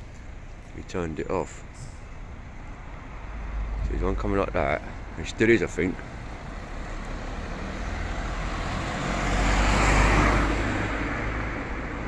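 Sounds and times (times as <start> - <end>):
road vehicle passing by: 1.5 - 12.0.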